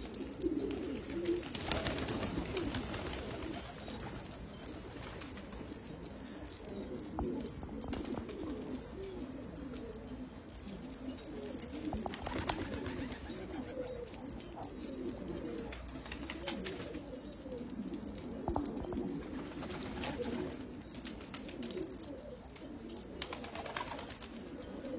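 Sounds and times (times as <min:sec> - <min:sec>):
pigeons cooing: 0:00.0 - 0:24.9.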